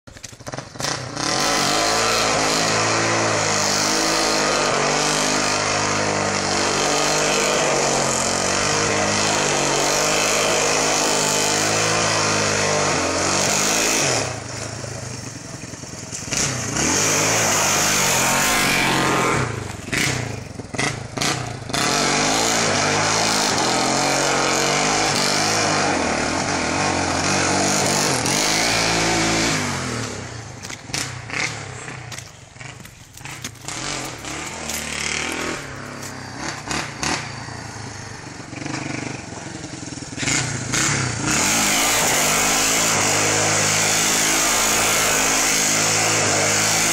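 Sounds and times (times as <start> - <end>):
quad engine revving: 0.2 - 46.9.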